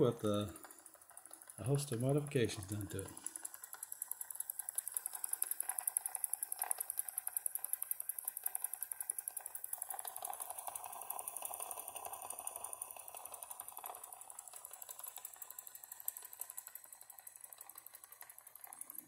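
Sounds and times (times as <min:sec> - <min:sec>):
toy steam engine chuffing: 0:00.0 - 0:19.0.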